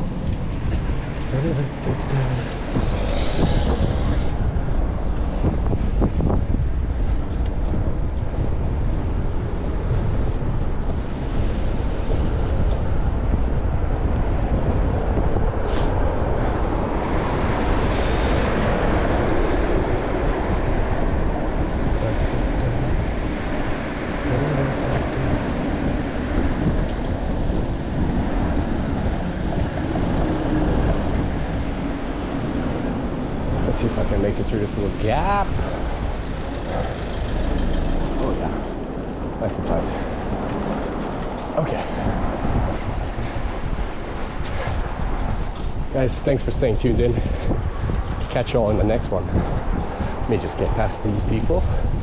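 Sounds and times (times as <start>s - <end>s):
road and tyre noise: 0.0s - 52.0s
wind rushing over microphone: 0.0s - 52.0s.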